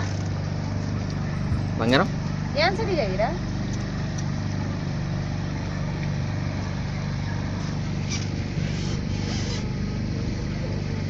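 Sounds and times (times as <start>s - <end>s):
water and wind hiss: 0.0s - 10.6s
boat engine droning: 0.0s - 11.0s.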